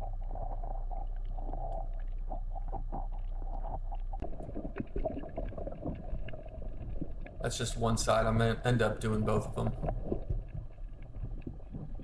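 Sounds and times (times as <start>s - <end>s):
muffled underwater rumble: 0.0s - 12.0s.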